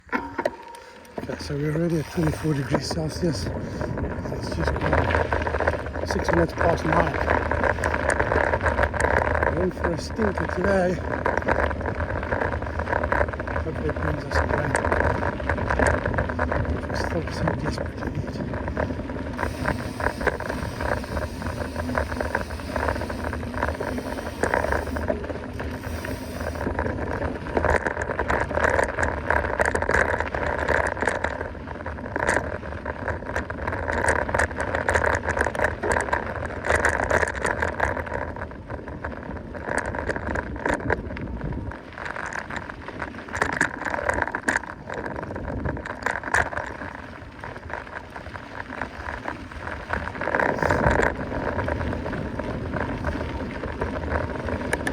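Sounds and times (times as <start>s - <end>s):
bike rattling over bumps: 0.0s - 54.9s
bike tyres rolling on dirt: 0.0s - 54.9s.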